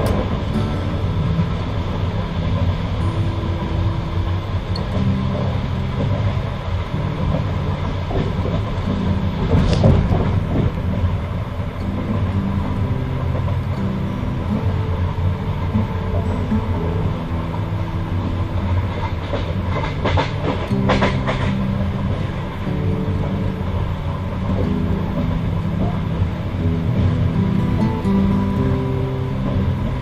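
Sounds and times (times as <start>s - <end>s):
humming wheel tones: 0.0s - 30.0s
train carriage rumbling on track: 0.0s - 30.0s
train rattle: 0.0s - 30.0s.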